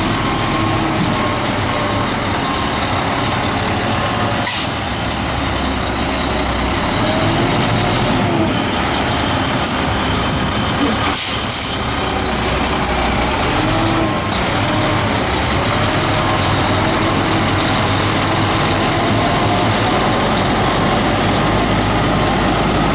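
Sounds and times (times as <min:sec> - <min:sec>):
diesel truck engine running: 0:00.0 - 0:22.9.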